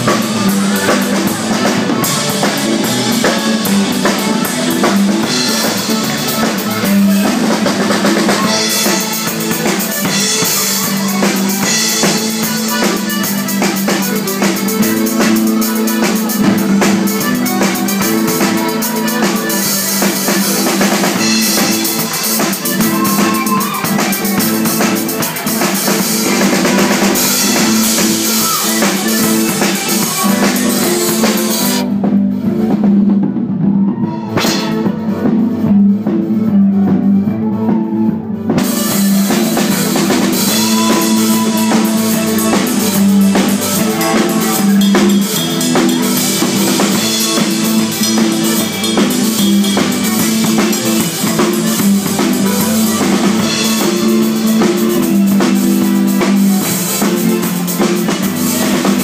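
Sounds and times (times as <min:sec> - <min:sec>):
accordion: 0:00.0 - 0:33.5, 0:34.2 - 0:59.0
band playing fast dance tune: 0:00.0 - 0:59.0
driving drum kit: 0:00.0 - 0:59.0.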